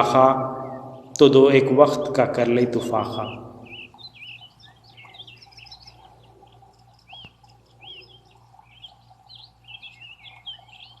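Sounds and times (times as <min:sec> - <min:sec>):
low steady hum: 0:00.0 - 0:11.0
small birds chirping: 0:00.0 - 0:11.0.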